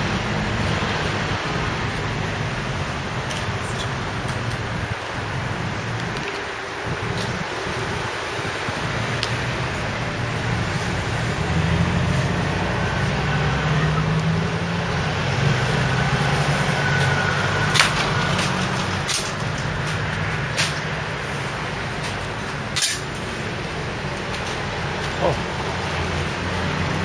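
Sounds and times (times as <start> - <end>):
street noise: 0.0 - 27.0
vehicle engine humming: 0.0 - 27.0.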